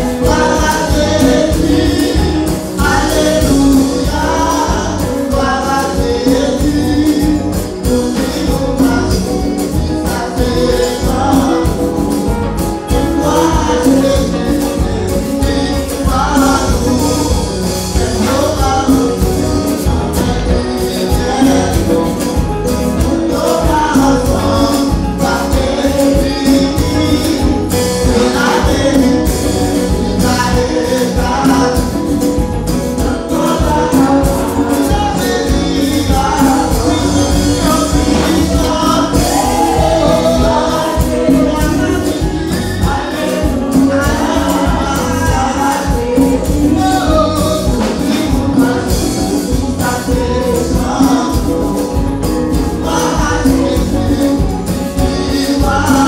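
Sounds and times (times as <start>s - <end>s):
steady percussion: 0.0s - 56.0s
voices singing together: 0.0s - 56.0s.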